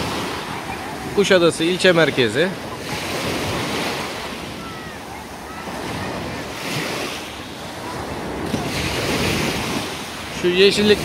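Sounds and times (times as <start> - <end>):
small waves breaking on sand: 0.0 - 11.0
wind on microphone: 2.0 - 11.0.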